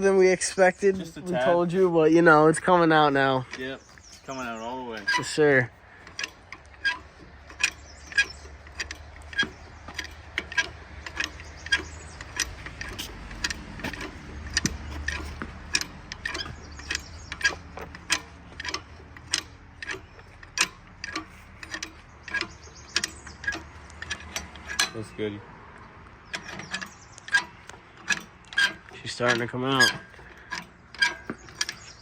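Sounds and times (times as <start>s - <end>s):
sharp metallic clicks: 0.4s - 32.0s.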